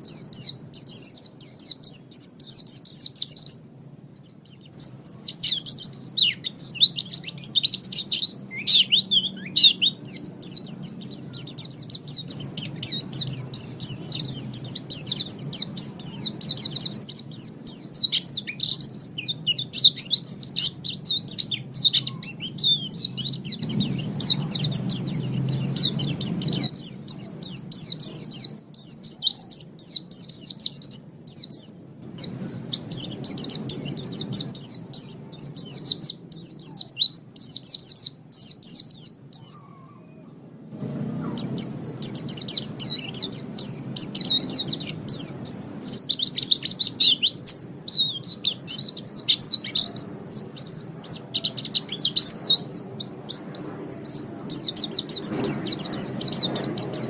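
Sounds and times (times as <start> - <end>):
bird twittering chirps: 0.0 - 57.0
low background rumble: 0.0 - 57.0.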